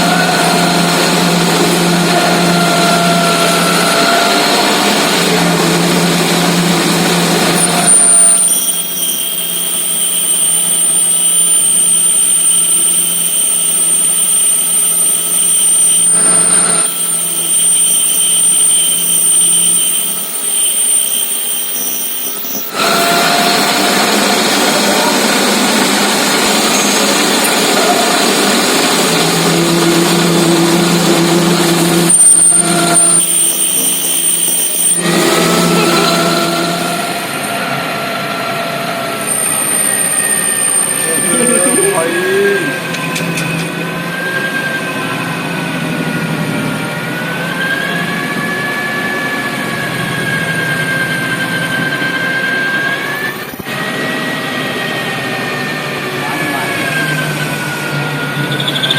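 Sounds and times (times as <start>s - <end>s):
metal lathe humming with high whine: 0.0s - 58.9s.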